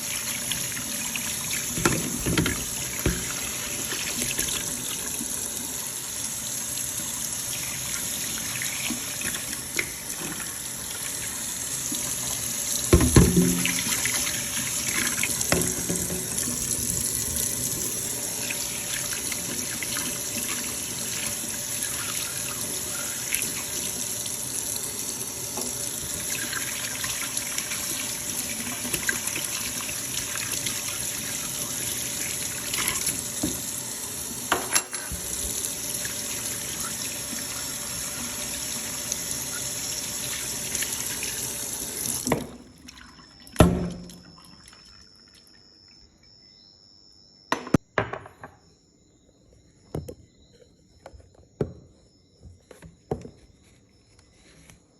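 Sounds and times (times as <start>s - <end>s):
water running from a tap: 0.0s - 45.0s.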